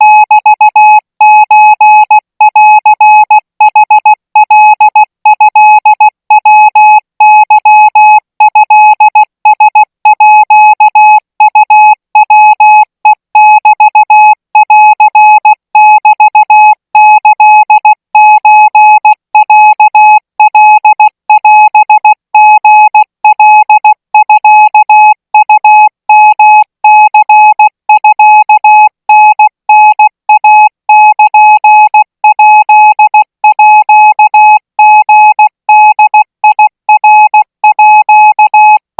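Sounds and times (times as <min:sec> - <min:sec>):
morse code beeps: 0:00.0 - 0:38.8.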